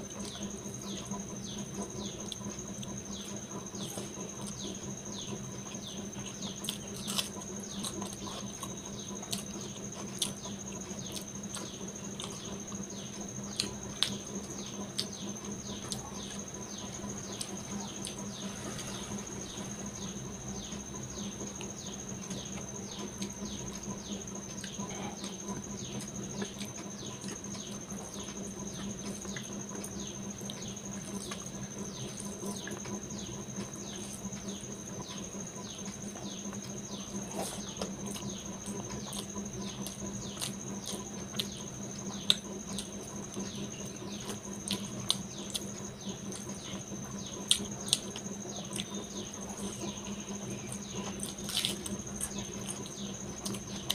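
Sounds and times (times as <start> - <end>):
low hum: 0.0 - 53.9.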